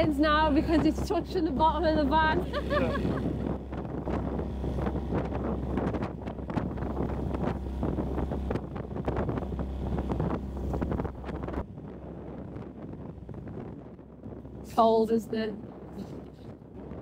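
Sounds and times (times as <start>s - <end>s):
water slapping hull: 0.0s - 14.7s
outboard motor: 0.0s - 17.0s
wind buffeting microphone: 0.0s - 17.0s.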